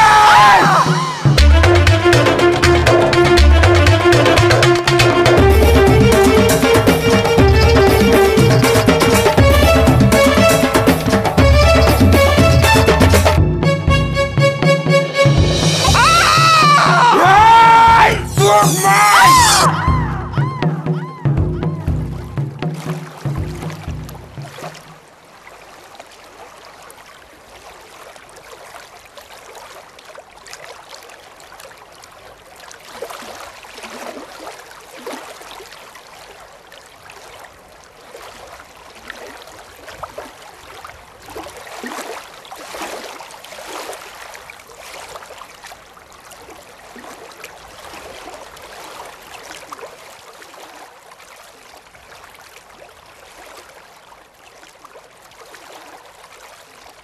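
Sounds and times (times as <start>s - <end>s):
running water rushing and gurgling: 0.0s - 57.0s.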